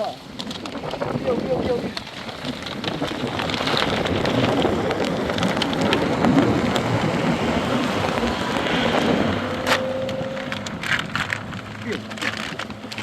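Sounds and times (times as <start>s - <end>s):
plastic sheeting crackling: 0.0s - 13.0s.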